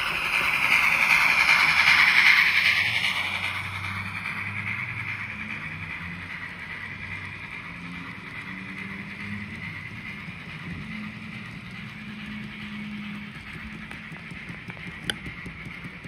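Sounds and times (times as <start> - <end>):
model train wheels whirring on rail: 0.0 - 16.0.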